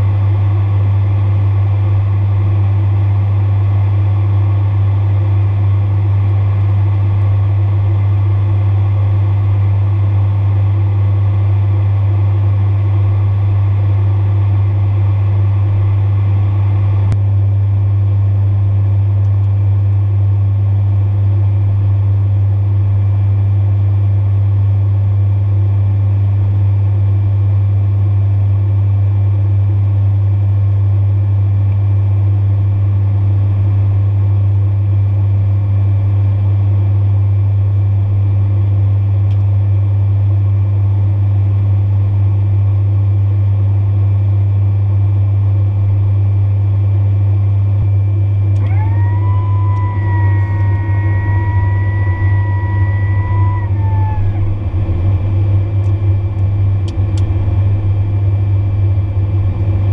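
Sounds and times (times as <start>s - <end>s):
propeller plane drone in cockpit: 0.0s - 59.9s.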